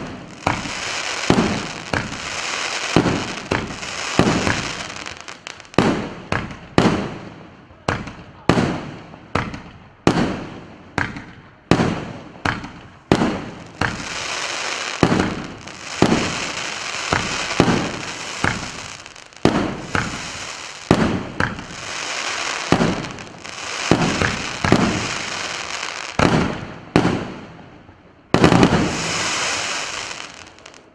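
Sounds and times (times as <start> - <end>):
fireworks crackling: 0.0 - 7.0, 11.8 - 27.5, 28.3 - 30.9
fireworks bangs: 0.0 - 7.3, 7.9 - 27.7, 28.3 - 30.9.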